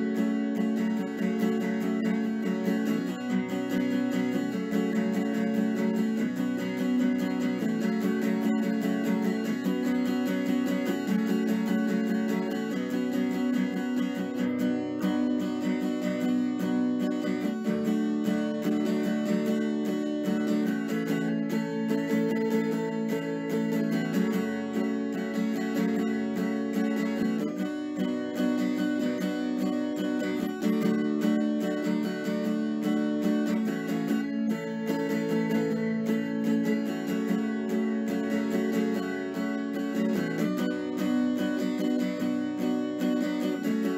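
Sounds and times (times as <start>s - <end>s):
acoustic guitar plucked and strummed: 0.0s - 43.9s.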